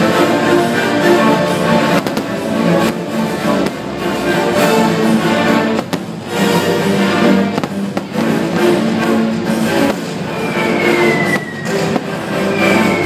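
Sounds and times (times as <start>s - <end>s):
orchestral music with strings: 0.0s - 13.0s
fireworks bangs: 1.8s - 5.0s, 5.6s - 13.0s.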